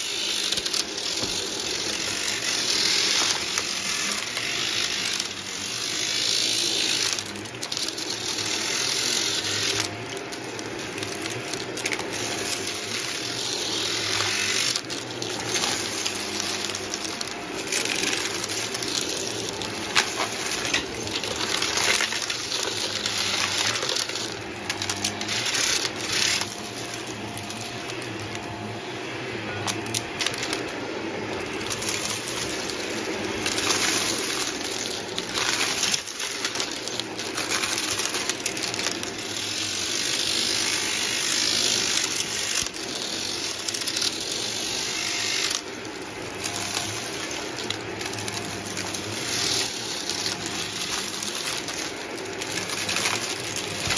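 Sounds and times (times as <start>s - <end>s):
vacuum cleaner running: 0.0s - 53.9s
debris rattling up vacuum tube: 6.9s - 28.4s, 29.6s - 53.9s.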